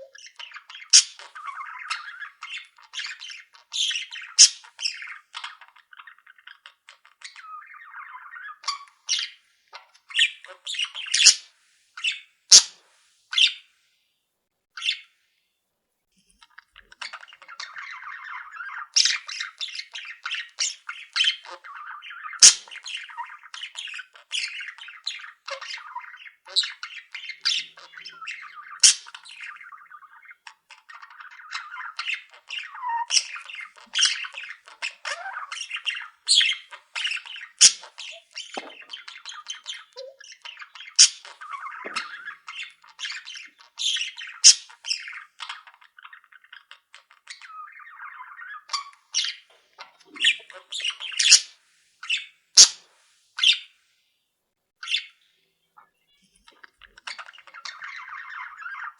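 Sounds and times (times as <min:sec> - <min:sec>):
loud sharp bird calls: 0:00.0 - 0:09.4, 0:10.1 - 0:12.8, 0:16.8 - 0:52.8
cage birds chattering and squawking: 0:00.0 - 0:13.7, 0:14.8 - 0:15.1, 0:16.3 - 0:53.8, 0:54.8 - 0:58.9.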